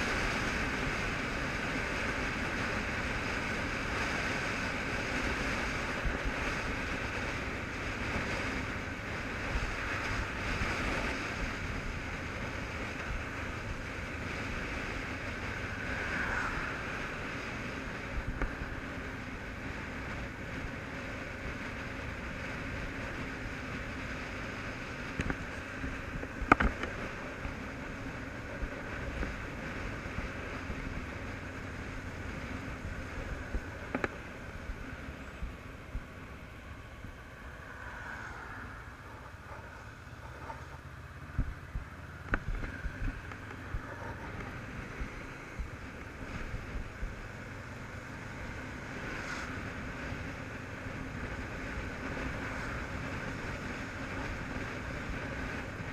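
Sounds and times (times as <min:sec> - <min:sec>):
motorcycle engine: 0:00.0 - 0:55.9
wind rushing on helmet: 0:00.0 - 0:55.9.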